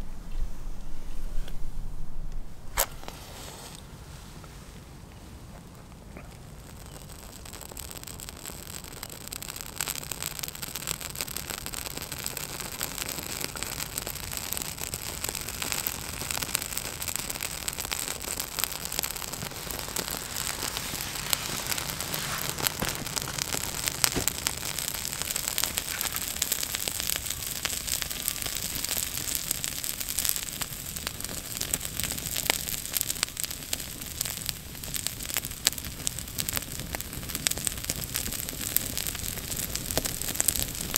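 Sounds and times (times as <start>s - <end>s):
fire crackling: 0.0s - 40.9s
fire hissing: 0.6s - 40.9s.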